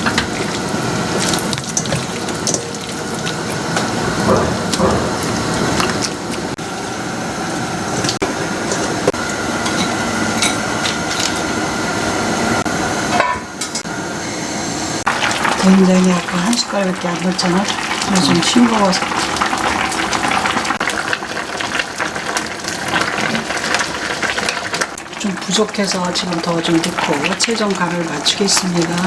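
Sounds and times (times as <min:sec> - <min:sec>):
soup bubbling in a pot: 0:00.0 - 0:12.3, 0:14.2 - 0:29.0.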